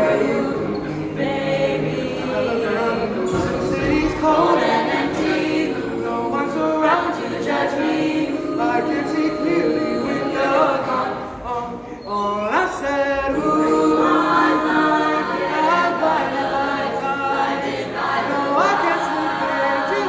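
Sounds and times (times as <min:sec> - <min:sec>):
voices singing in harmony: 0:00.0 - 0:20.0.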